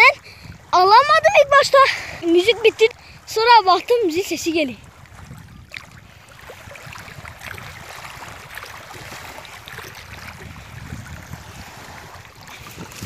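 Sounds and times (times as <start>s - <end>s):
wind buffeting microphone: 0.0s - 13.0s
small waves lapping on stones: 2.2s - 13.0s.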